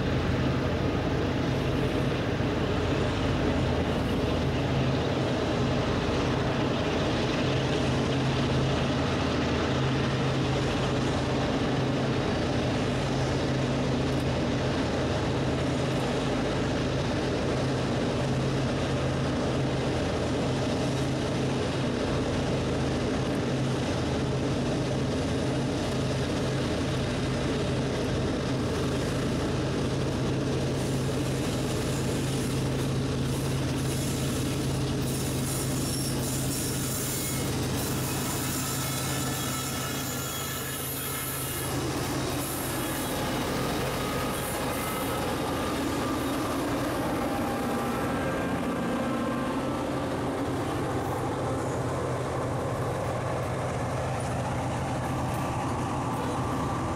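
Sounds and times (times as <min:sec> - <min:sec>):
diesel locomotives droning: 0:00.0 - 0:56.9.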